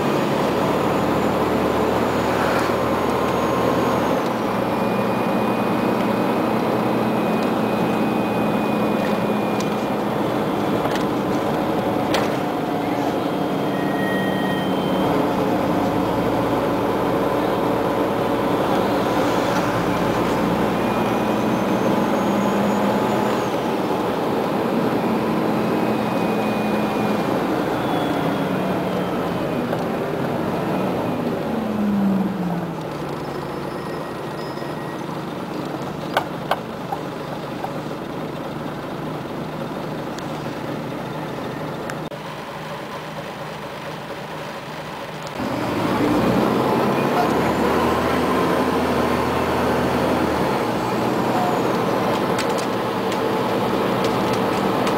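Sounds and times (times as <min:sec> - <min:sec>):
bus engine hum: 0:00.0 - 0:54.9
road noise: 0:00.0 - 0:54.9.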